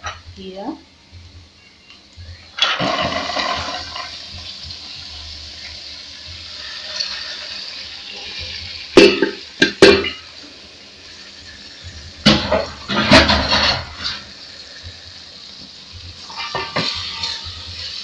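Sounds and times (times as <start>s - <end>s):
vegetables sizzling in hot oil: 2.3s - 18.0s.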